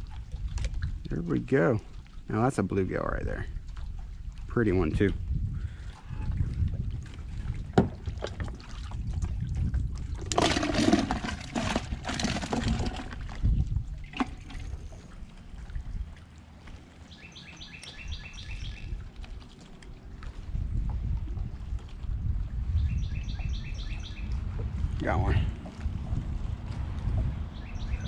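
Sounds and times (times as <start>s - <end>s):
water splashing and sloshing: 0.0s - 28.0s.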